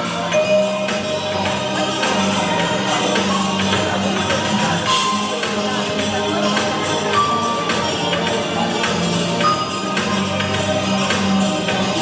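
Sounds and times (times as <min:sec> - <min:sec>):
steady percussion beat: 0:00.0 - 0:12.0
sustained instrumental chords: 0:00.0 - 0:12.0.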